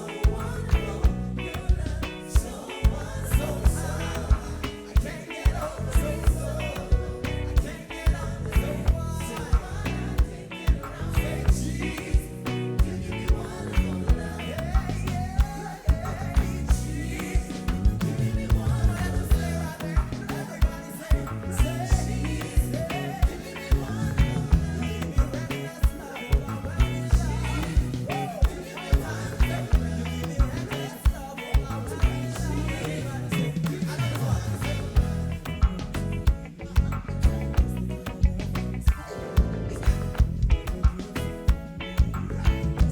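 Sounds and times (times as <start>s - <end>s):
person singing: 0.0s - 35.6s
live reggae band playing: 0.0s - 42.9s.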